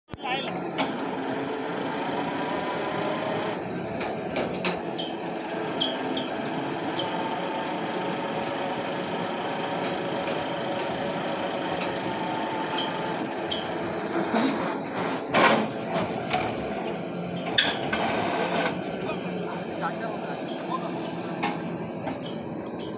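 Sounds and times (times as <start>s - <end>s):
hydraulic rig mechanical drone: 0.1s - 22.9s.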